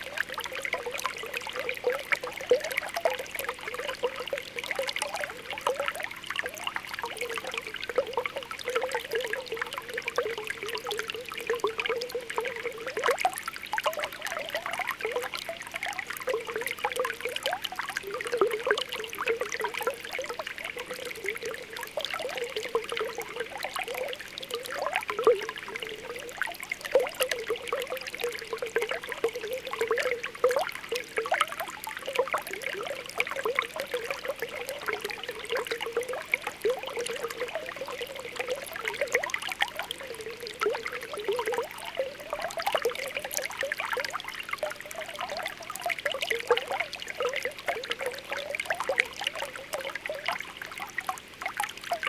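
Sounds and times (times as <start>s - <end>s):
spring water bubbling: 0.0s - 52.0s.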